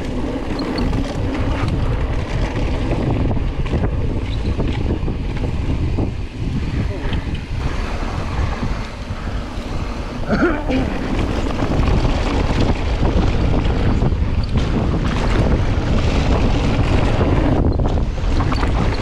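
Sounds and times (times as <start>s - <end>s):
bike clattering over rough trail: 0.0s - 19.0s
wind rushing over microphone: 0.0s - 19.0s.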